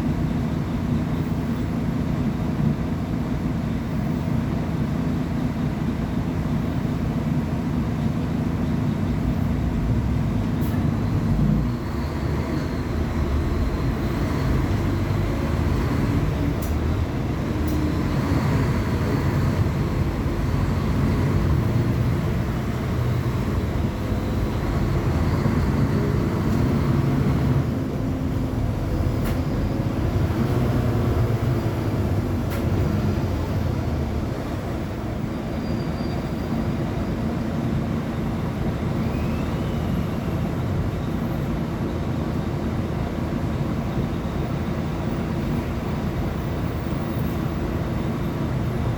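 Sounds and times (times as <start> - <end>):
bus diesel engine drone: 0.0 - 48.9.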